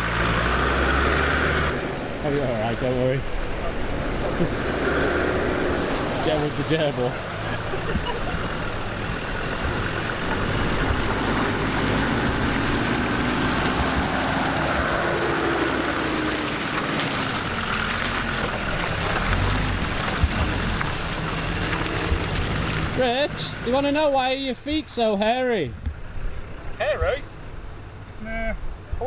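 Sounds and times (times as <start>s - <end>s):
off-road vehicle engine running: 0.0s - 28.5s.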